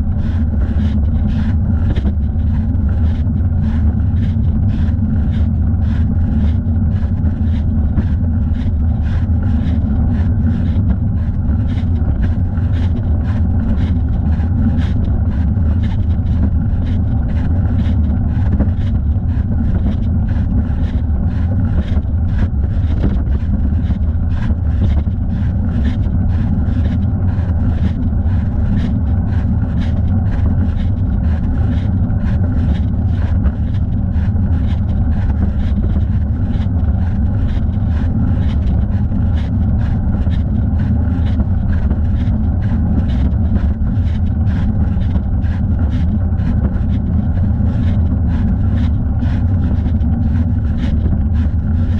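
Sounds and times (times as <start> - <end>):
wind rumble on microphone: 0.0 - 51.9.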